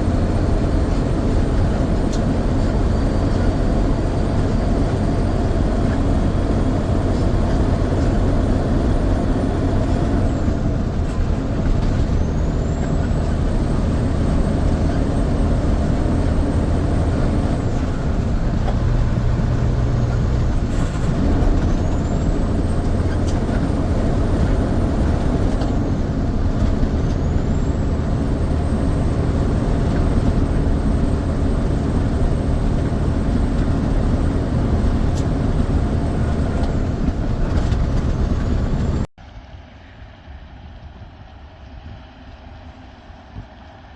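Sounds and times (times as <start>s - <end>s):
truck engine running: 0.0s - 39.1s.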